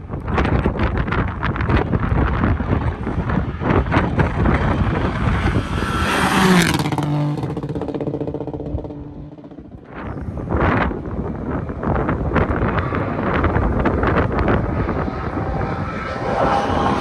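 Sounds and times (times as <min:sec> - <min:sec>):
rally car engine approaching: 0:00.5 - 0:17.0.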